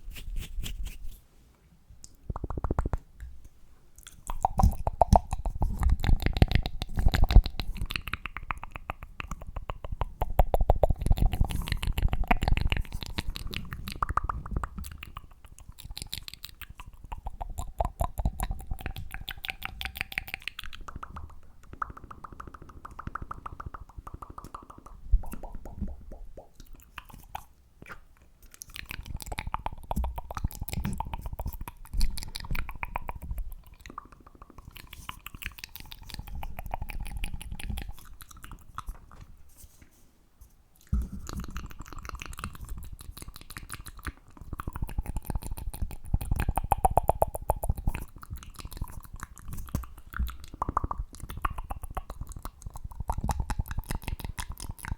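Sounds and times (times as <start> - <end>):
wet mouth clicks and pops: 2.0 - 39.3, 40.8 - 54.9.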